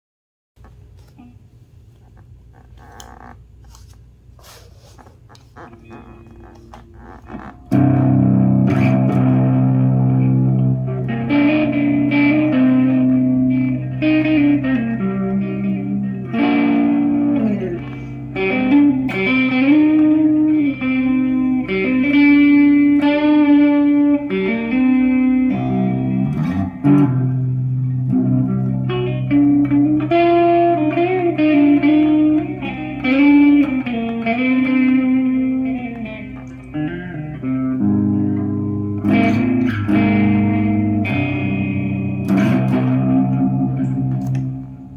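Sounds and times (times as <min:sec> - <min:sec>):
electric guitar notes and chords: 0:05.3 - 0:44.9.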